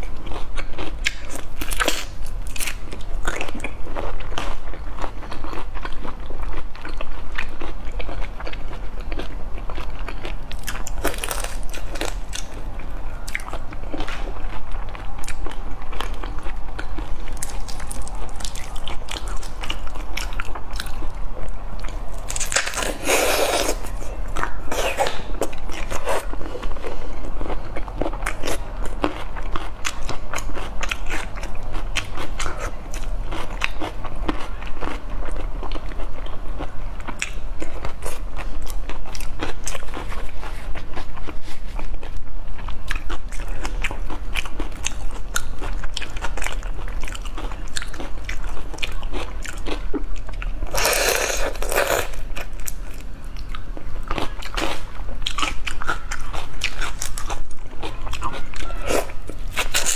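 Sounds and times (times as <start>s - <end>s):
chewing raw prawns: 0.0s - 21.1s, 21.8s - 59.9s.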